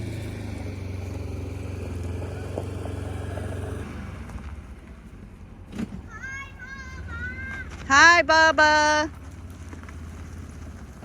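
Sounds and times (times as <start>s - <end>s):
utility vehicle engine droning: 0.0s - 11.0s.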